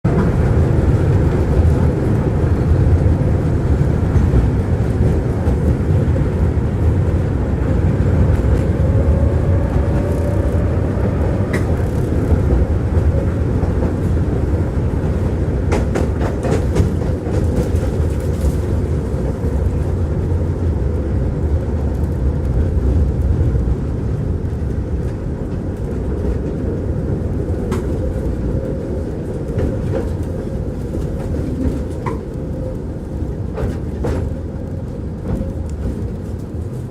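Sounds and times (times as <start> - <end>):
tram wheels rumbling: 0.0 - 36.9.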